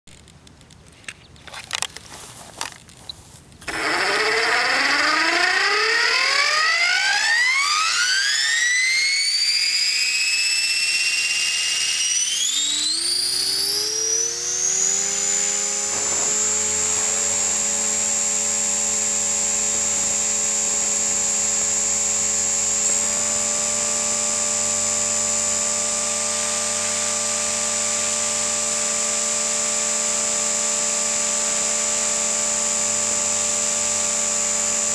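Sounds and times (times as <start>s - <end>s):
electric motor whine: 3.6s - 34.9s
helicopter rotor hum: 3.6s - 34.9s.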